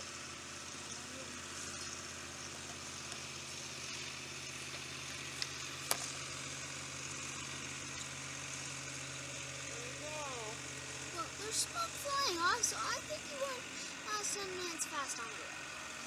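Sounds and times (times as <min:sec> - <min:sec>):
constant hiss: 0:00.0 - 0:16.0
low engine-like hum: 0:00.0 - 0:16.0.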